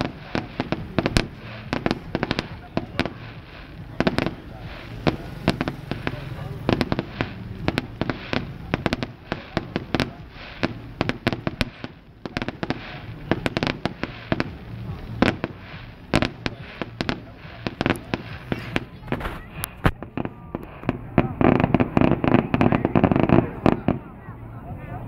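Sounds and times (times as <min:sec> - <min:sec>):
fireworks bangs and pops: 0:00.0 - 0:24.2.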